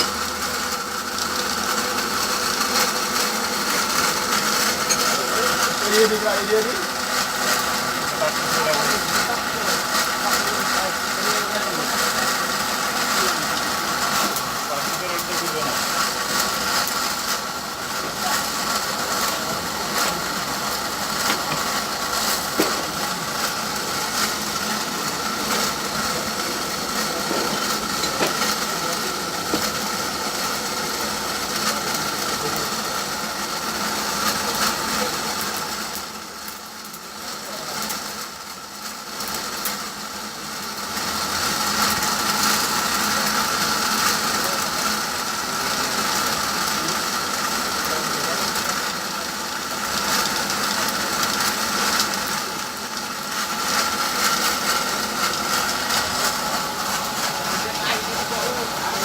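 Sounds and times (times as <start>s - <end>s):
workshop machine whining: 0.0s - 59.0s.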